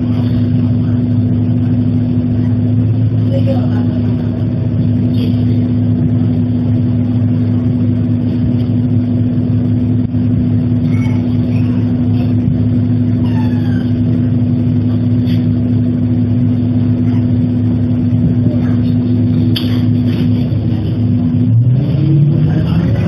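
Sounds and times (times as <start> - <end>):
bus diesel engine idling: 0.0 - 23.0.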